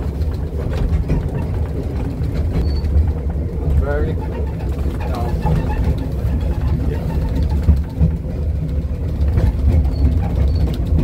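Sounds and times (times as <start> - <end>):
railway carriage rumbling on track: 0.0 - 11.0.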